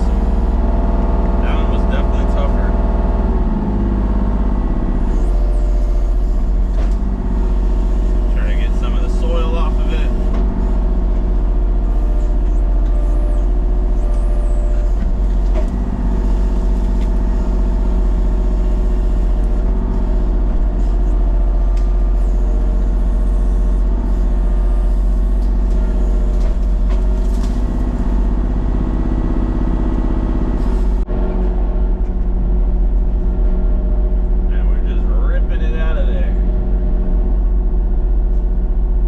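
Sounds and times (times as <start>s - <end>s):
large engine droning: 0.0s - 39.0s.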